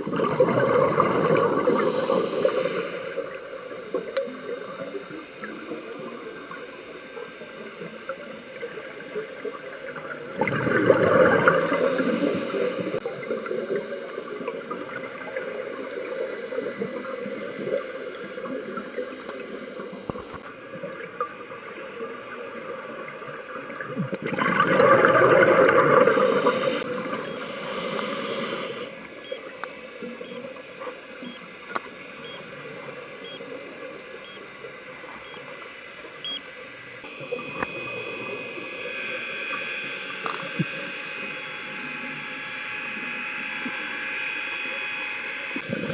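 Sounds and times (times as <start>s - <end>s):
scuba exhaust bubbles: 0.0s - 45.9s
underwater crackling hiss: 0.0s - 45.9s.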